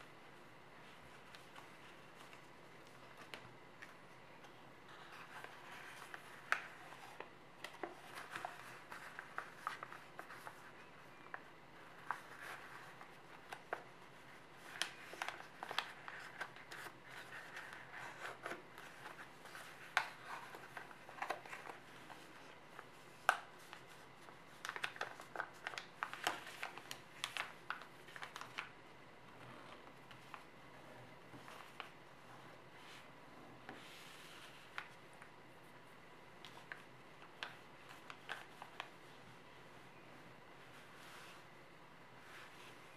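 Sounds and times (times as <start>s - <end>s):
paper crinkling and creasing: 0.0s - 30.5s, 31.2s - 33.1s, 33.7s - 35.8s, 36.4s - 40.0s.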